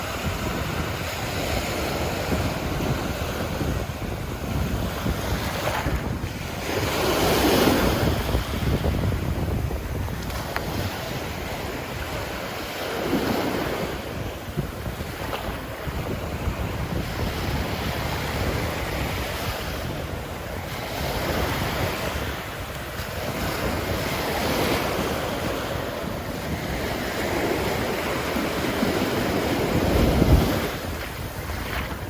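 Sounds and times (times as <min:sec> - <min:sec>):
ocean waves breaking on beach: 0:00.0 - 0:32.0
wind buffeting microphone: 0:00.0 - 0:32.0.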